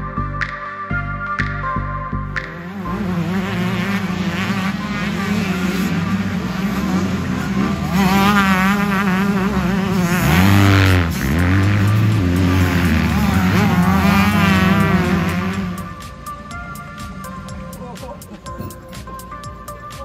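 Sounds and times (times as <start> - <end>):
motocross bike engines revving: 2.4 - 19.9.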